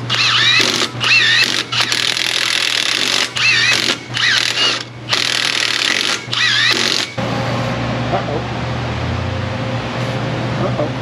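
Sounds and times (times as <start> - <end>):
low shop hum: 0.0 - 11.0.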